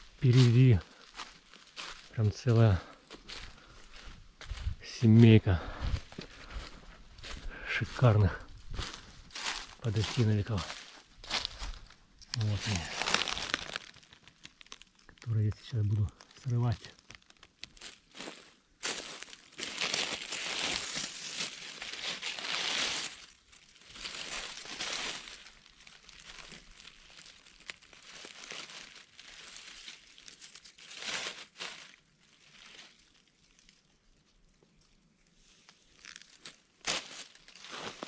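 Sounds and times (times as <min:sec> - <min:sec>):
dry leaves rustling: 0:00.0 - 0:02.2, 0:02.8 - 0:38.0
footstep on dry leaves: 0:00.0 - 0:38.0.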